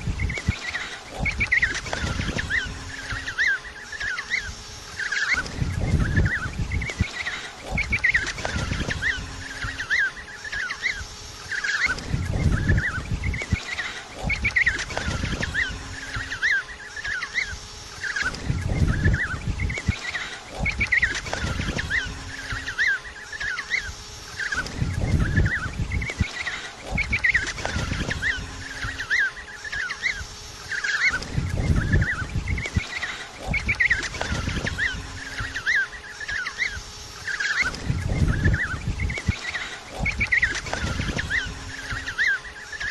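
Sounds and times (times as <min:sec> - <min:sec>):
penguins calling: 0:00.2 - 0:42.9.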